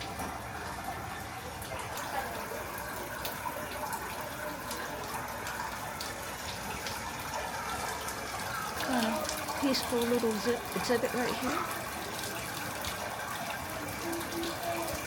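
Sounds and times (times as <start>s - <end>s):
water drips: 0.0s - 15.0s
water running and splashing: 0.0s - 15.0s.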